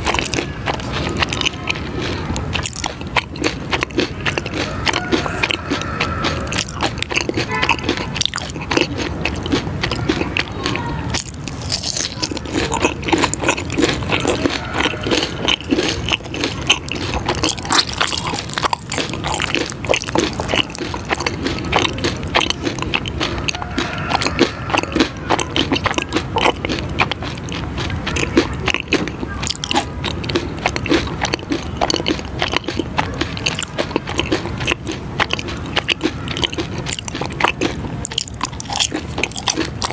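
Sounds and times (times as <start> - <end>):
chewing with crunches: 0.0 - 39.9.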